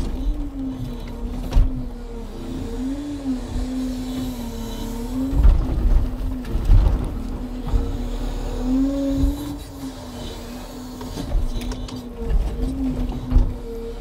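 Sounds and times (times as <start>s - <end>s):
hydraulic whine: 0.0s - 14.0s.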